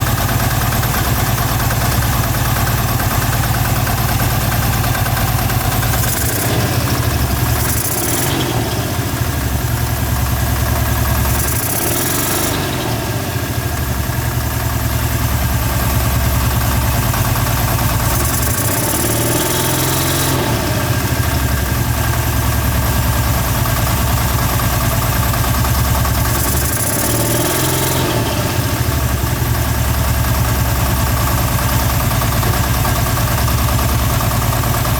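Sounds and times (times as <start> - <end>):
engine knocking and revving: 0.0 - 34.9.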